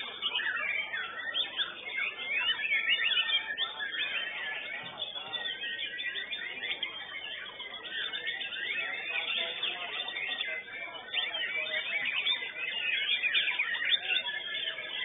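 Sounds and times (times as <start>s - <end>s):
bird singing whistles and trills: 0.0s - 15.0s.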